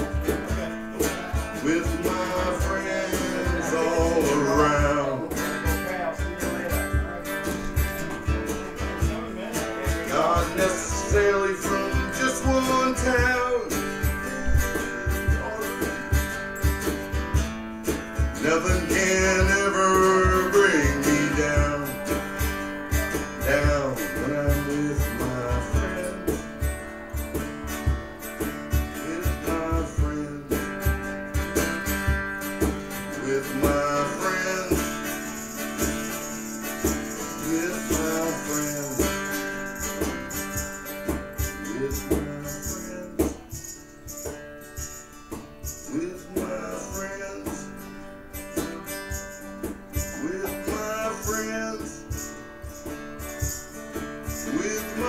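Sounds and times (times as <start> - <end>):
live band with guitar: 0.0 - 55.0.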